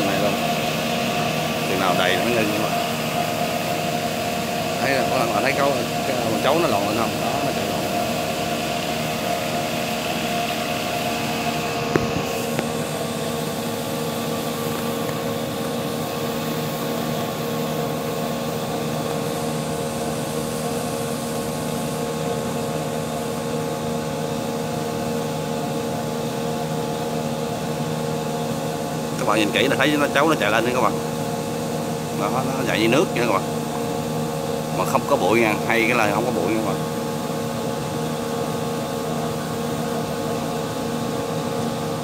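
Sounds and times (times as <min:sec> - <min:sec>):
blower machine humming: 0:00.0 - 0:42.0.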